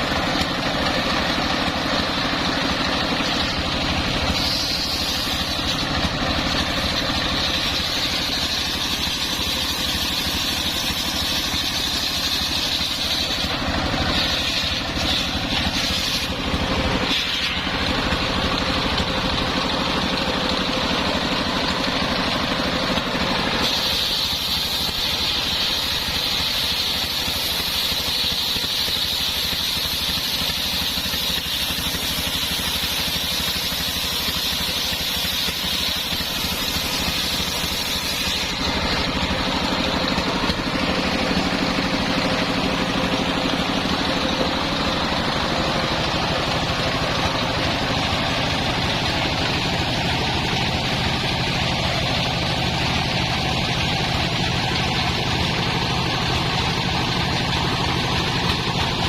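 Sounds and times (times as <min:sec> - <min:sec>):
circular saw: 0:00.0 - 0:59.0
sawmill engine running: 0:00.0 - 0:59.0.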